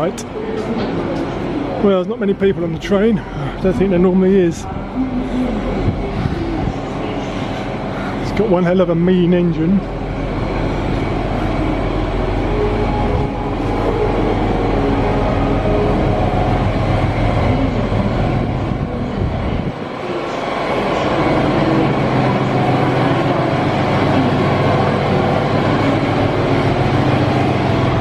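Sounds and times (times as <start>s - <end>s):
locomotive machinery hum and rumble: 0.0s - 28.0s.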